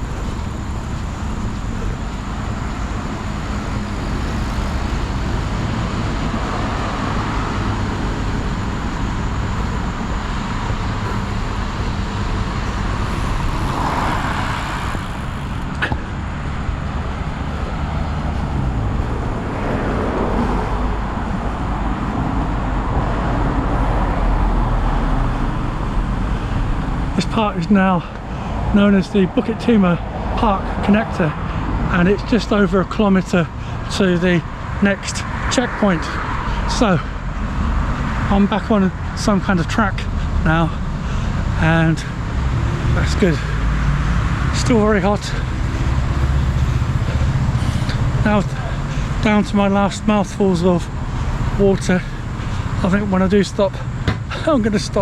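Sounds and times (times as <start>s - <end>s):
road traffic: 0.0s - 55.0s
vehicles passing by: 0.0s - 55.0s.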